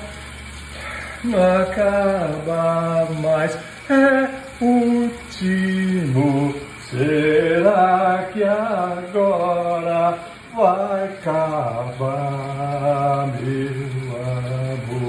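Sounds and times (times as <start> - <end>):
man singing unaccompanied: 0.8 - 15.0.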